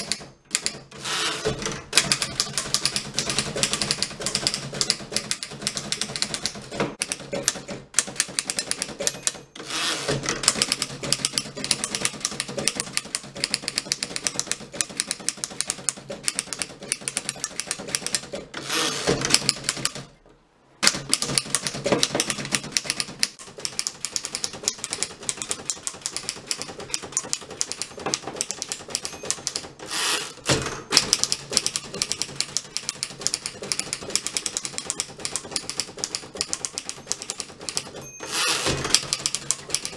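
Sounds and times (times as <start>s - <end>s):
typewriter keystroke clacks: 0.0s - 20.1s, 20.8s - 39.9s
typewriter rasping: 0.0s - 20.1s, 20.8s - 39.9s.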